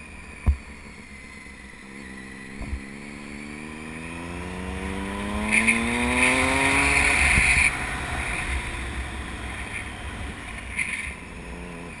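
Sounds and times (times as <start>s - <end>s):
vehicle engine revving: 1.5s - 12.0s.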